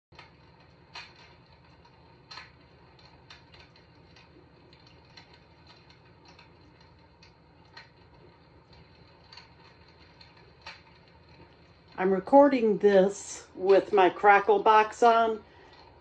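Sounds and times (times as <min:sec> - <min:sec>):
low steady hum: 0:00.1 - 0:16.0
recorded wood fire crackling: 0:00.1 - 0:16.0.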